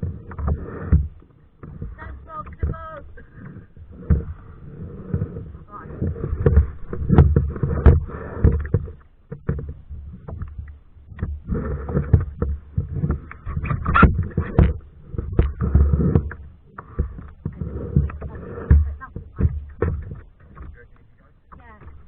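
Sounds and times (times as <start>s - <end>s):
paddle knocks and splashes: 0.0s - 22.0s.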